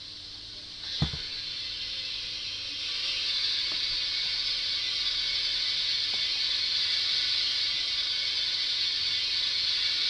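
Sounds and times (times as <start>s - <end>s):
steam hiss through speaker: 0.0s - 10.0s.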